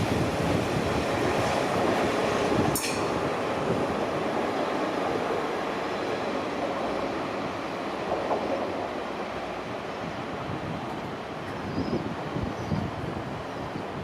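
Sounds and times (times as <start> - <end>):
train rumbling along rails: 0.0 - 14.0.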